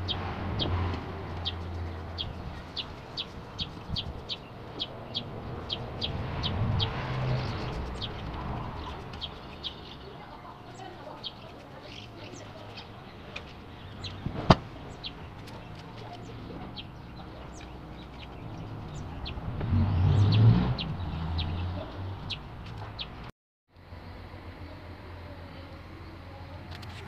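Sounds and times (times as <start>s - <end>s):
small birds chirping: 0.0s - 23.3s.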